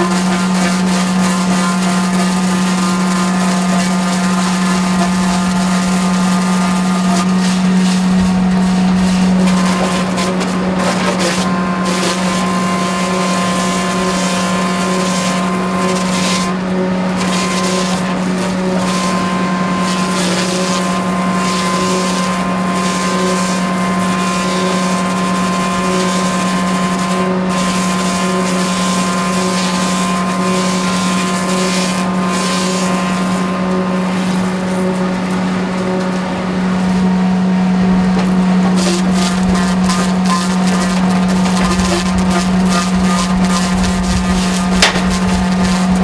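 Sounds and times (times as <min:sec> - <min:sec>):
post peeler machine humming: 0:00.0 - 0:46.0.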